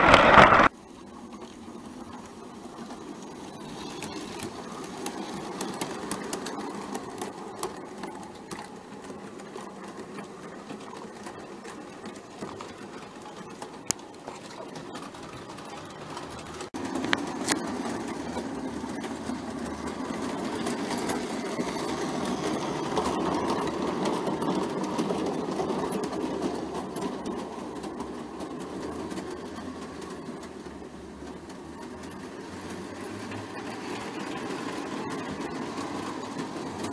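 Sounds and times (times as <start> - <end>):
model train whirring rumble: 0.0 - 36.9.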